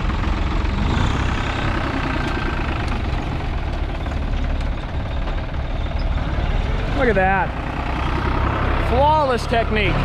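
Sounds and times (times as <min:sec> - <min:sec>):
heavy farm vehicle engine: 0:00.0 - 0:10.0.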